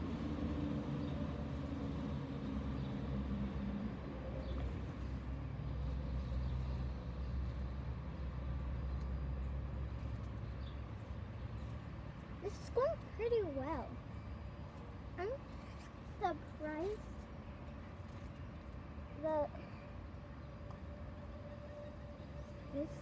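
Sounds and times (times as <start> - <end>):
low droning hum: 0.0 - 23.0
low machine rumble: 0.0 - 23.0.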